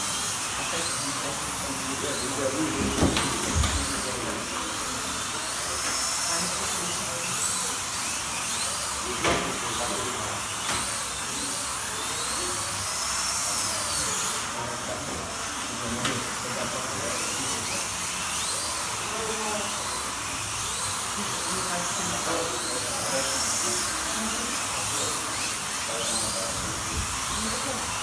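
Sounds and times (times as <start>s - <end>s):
slot car motors whining: 0.0s - 28.0s.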